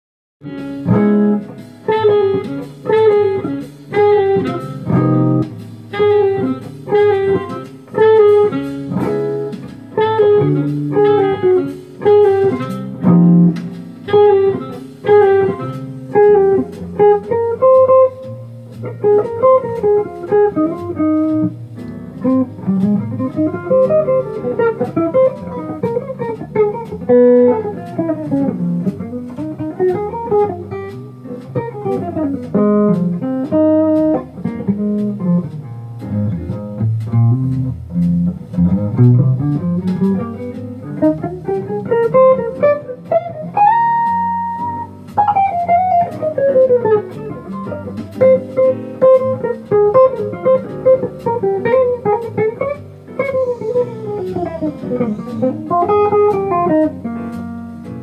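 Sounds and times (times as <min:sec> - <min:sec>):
electric jazz guitar: 0:00.4 - 0:58.0.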